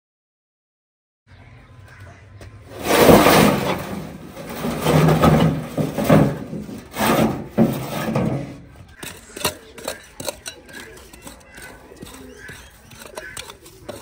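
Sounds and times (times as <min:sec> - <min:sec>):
bricks knocking and scraping: 0:02.7 - 0:14.0.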